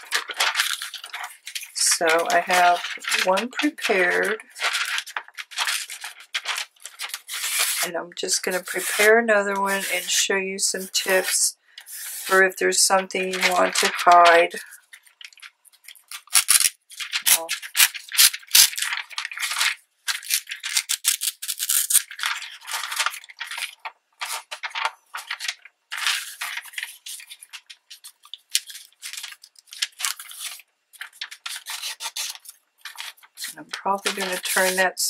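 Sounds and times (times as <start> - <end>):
paper and cardboard rustling: 0.0 - 35.0.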